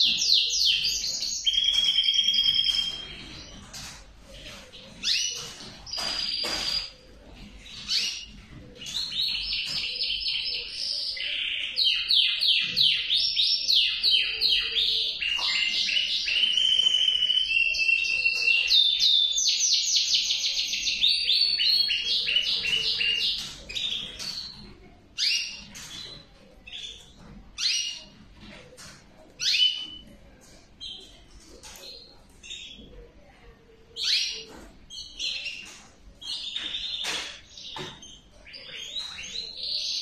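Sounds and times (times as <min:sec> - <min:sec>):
canary trilling song: 0:00.0 - 0:33.0, 0:33.9 - 0:40.0.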